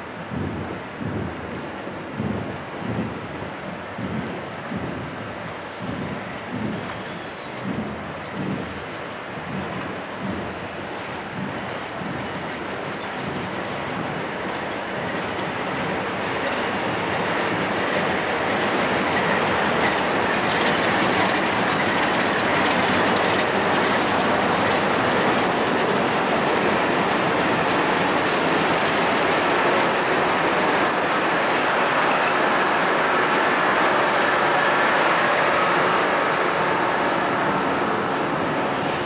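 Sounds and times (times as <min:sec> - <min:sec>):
diesel locomotive engines running: 0:00.0 - 0:39.0
train wheels clattering over rail joints: 0:00.1 - 0:39.0.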